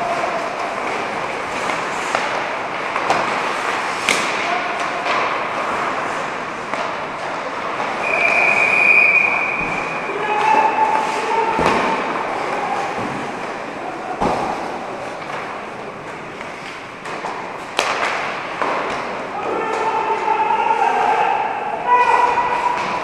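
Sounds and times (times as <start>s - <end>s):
pucks and sticks knocking: 0.0s - 8.5s, 9.6s - 20.4s, 22.1s - 23.0s
skating in echoing hall: 0.0s - 23.0s.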